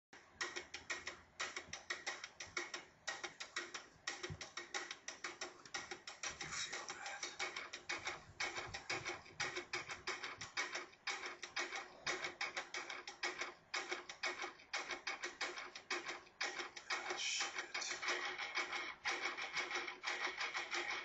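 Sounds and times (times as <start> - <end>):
clicking background music: 0.2 - 21.0.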